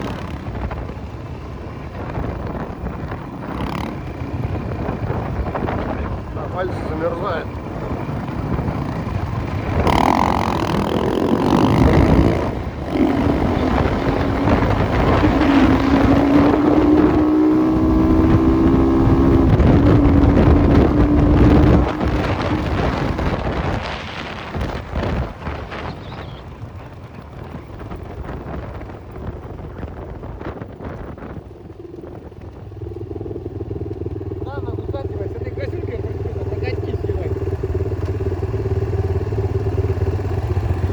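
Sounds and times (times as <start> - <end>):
motorcycle engine under throttle: 0.0 - 40.9
wind buffeting microphone: 0.0 - 40.9.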